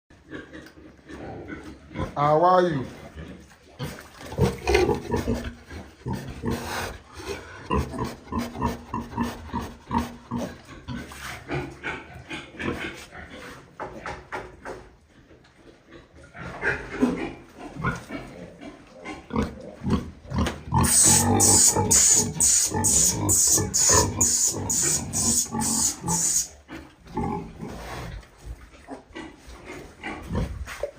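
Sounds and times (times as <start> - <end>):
pigs grunting: 0.1 - 30.9.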